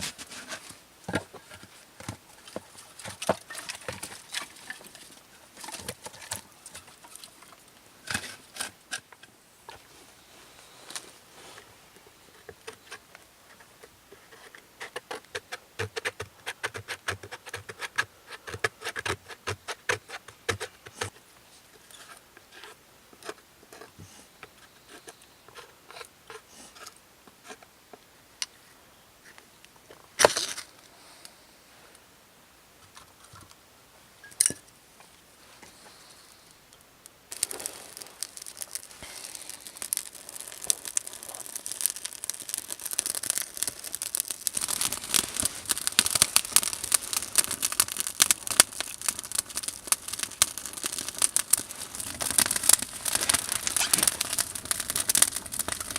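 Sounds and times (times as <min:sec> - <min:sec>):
crinkling rustling noise: 0:00.0 - 0:27.7, 0:36.8 - 0:55.9.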